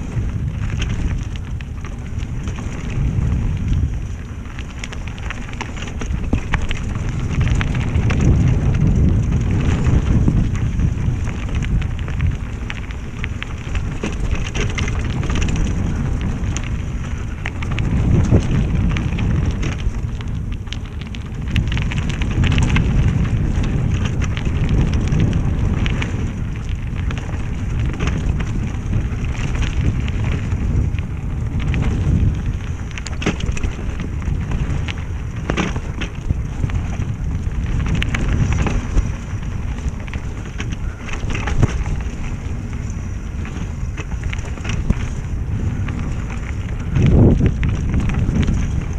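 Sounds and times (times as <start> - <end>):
bike rattling: 0.0 - 48.9
tyres crunching on dirt: 0.0 - 48.9
wind rumble on microphone: 0.0 - 48.9.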